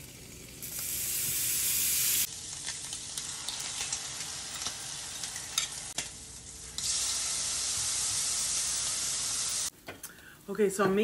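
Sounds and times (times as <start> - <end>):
egg and bacon sizzling in pan: 0.0 - 11.0.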